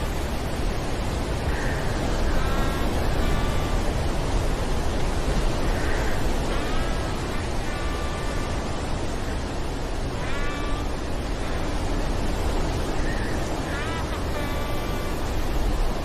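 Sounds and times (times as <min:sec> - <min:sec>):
rain and wind rushing: 0:00.0 - 0:16.0.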